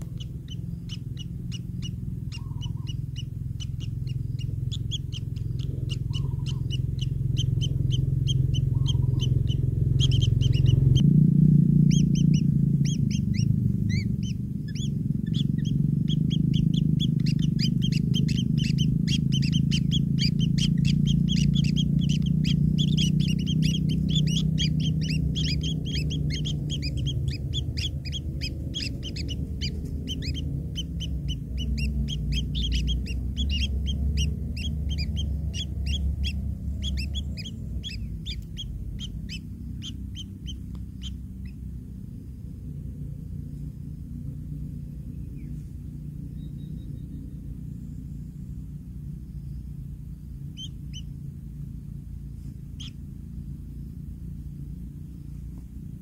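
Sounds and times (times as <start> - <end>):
low rumble: 0.0 - 56.0
nestlings chirping: 0.0 - 56.0.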